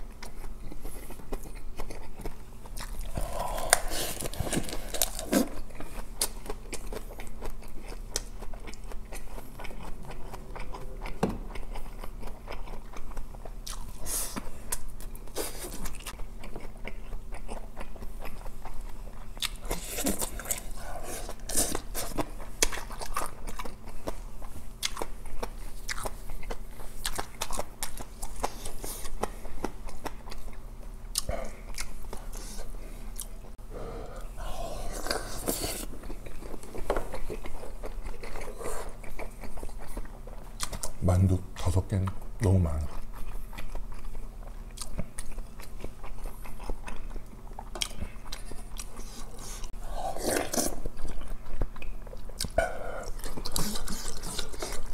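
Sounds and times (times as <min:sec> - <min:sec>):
person chewing: 0:00.0 - 0:54.9.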